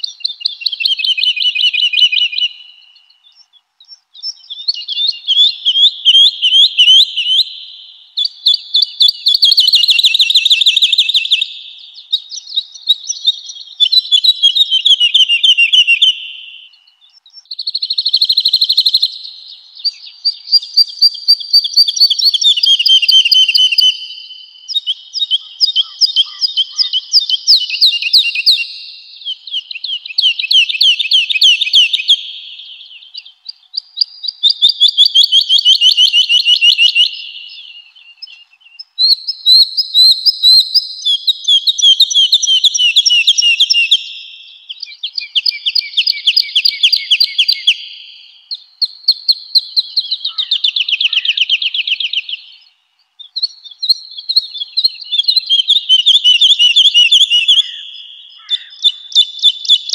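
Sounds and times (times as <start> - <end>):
woodlark singing: 0.0 - 59.9.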